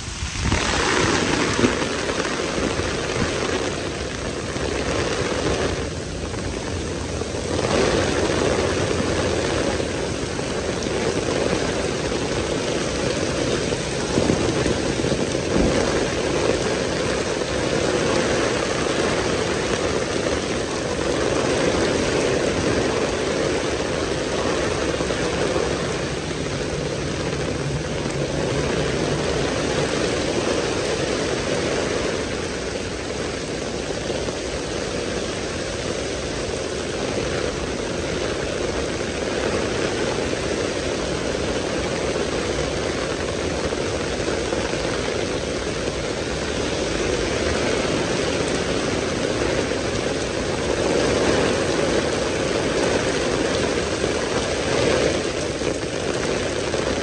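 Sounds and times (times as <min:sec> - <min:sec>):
heavy rain on street: 0:00.0 - 0:57.0.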